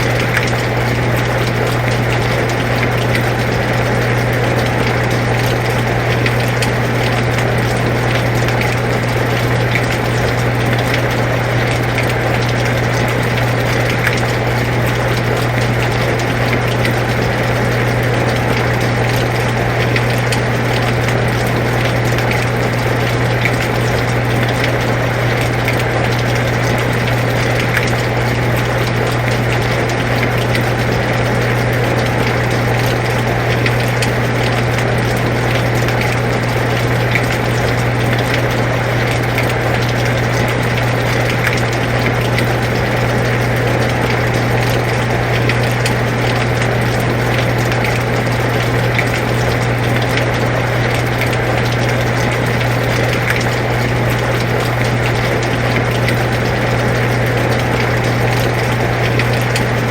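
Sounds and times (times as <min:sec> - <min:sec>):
air conditioner humming: 0:00.0 - 0:59.9
raindrop ticks: 0:00.0 - 0:59.9.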